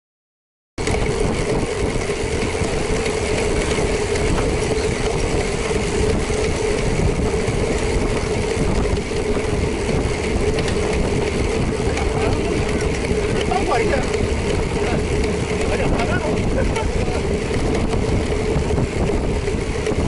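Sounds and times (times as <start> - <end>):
motorcycle engine hum: 0.8 - 20.0
wind and road noise: 0.8 - 20.0.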